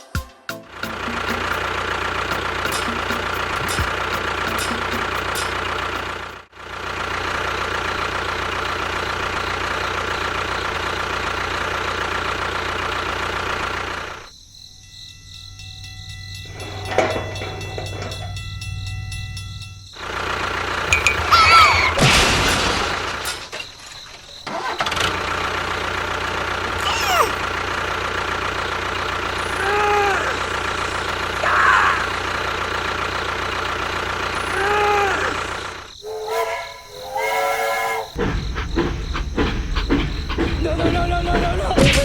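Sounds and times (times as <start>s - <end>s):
vehicle engine running: 0.6s - 14.5s, 15.5s - 36.0s, 38.1s - 42.0s.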